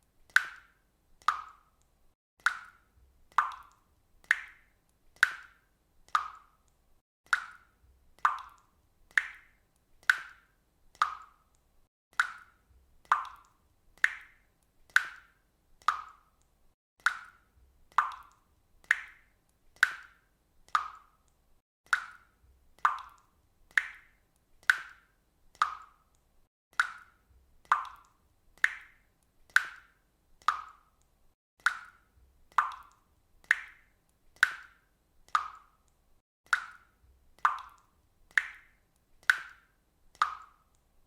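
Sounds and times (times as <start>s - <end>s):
water dripping: 0.0s - 41.0s.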